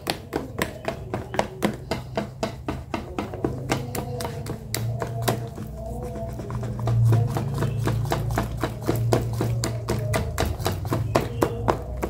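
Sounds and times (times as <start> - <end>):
whisk beating batter: 0.0 - 12.0.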